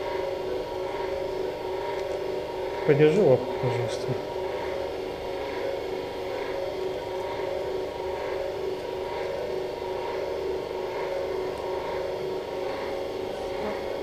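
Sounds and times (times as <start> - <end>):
electric equipment hum and whir: 0.0 - 14.0.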